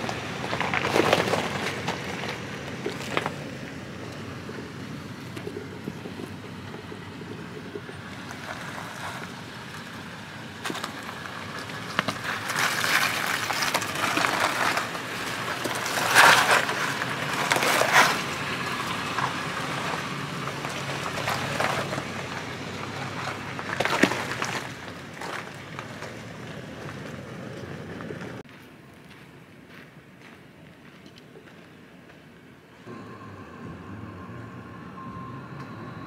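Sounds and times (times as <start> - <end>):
tyres crunching over rocks: 0.0 - 32.2
low engine rumble: 0.0 - 36.0.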